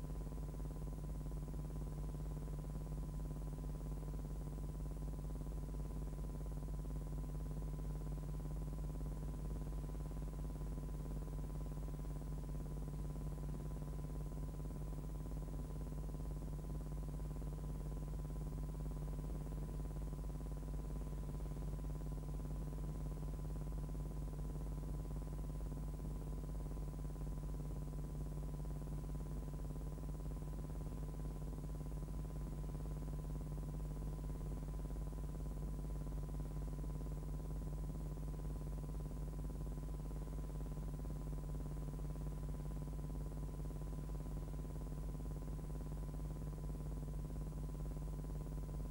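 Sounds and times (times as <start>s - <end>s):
low electrical hum: 0.0s - 48.9s.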